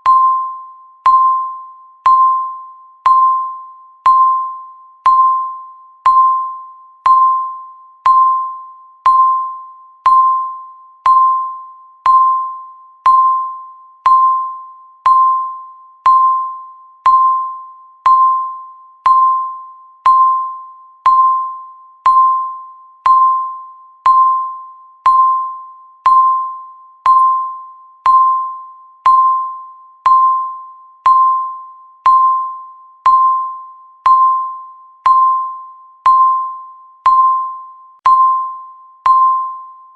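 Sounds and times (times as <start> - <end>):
electronic timer ticking: 0.0 - 39.6.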